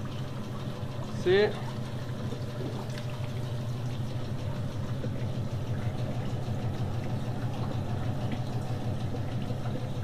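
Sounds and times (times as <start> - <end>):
machinery low hum: 0.0 - 10.0.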